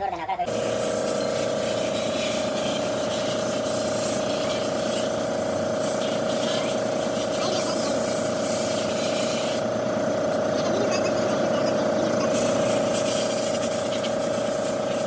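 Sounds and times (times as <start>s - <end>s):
power tool whining: 0.5s - 15.0s.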